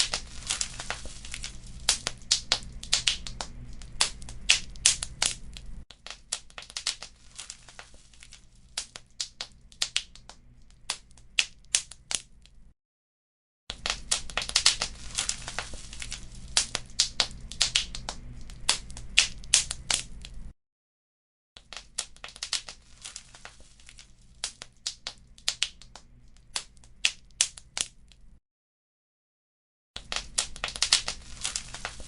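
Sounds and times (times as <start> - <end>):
wood fire crackling: 0.0 - 12.6, 13.7 - 20.5, 21.7 - 28.2, 30.0 - 32.0.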